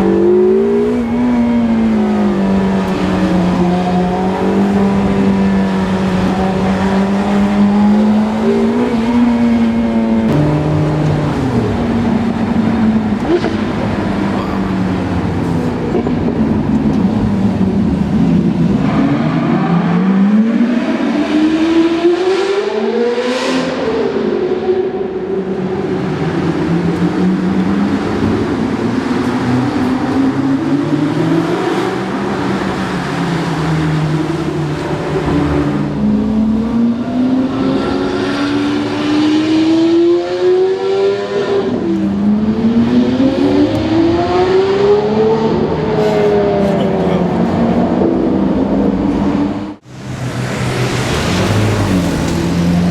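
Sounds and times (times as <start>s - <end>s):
loud car engine revving: 0.0s - 52.9s.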